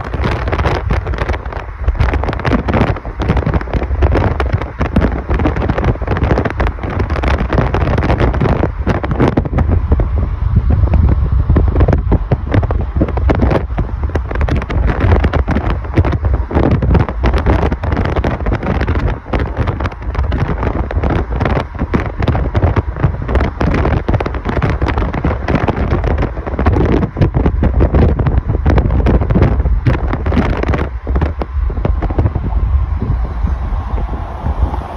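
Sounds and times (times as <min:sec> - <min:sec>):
road and tyre noise: 0:00.0 - 0:34.9
wind buffeting microphone: 0:00.0 - 0:34.9.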